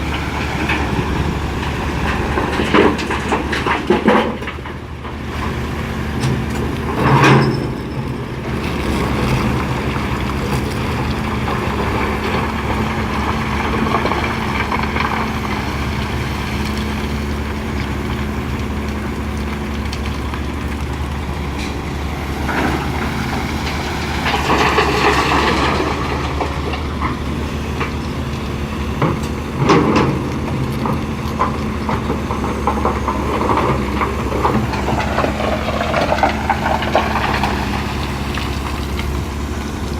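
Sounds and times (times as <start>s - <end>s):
excavator diesel engine hum: 0.0s - 39.9s.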